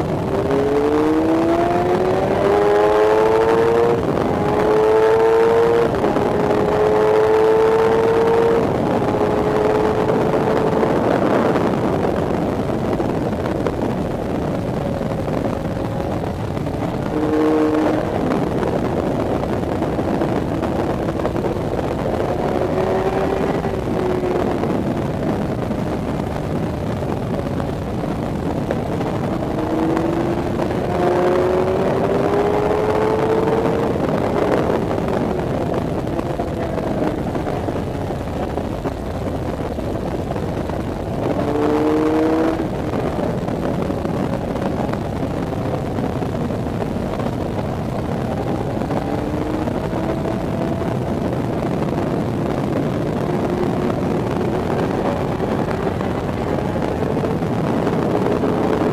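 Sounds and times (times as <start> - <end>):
motorcycle engine revving hard: 0.0 - 58.9
wind noise: 0.0 - 58.9.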